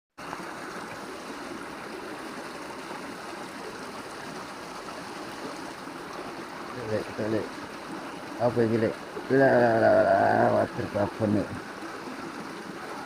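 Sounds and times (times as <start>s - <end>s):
small river flowing: 0.2s - 13.0s.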